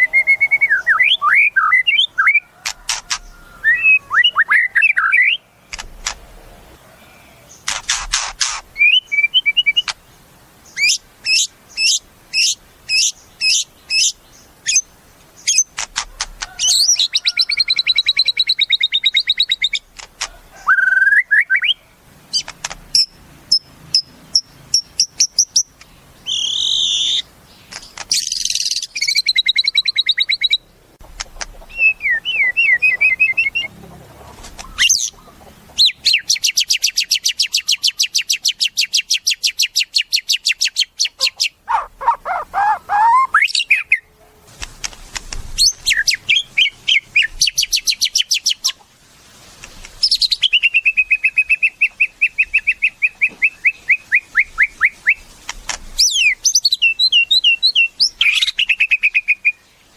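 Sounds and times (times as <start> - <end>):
songbird singing: 0.0 - 48.9, 49.6 - 59.9.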